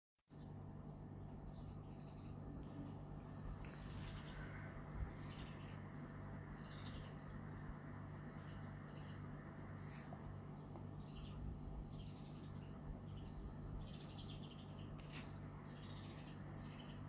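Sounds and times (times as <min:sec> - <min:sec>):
faint high chirping: 0:00.3 - 0:17.0
low electrical hum: 0:00.3 - 0:17.0.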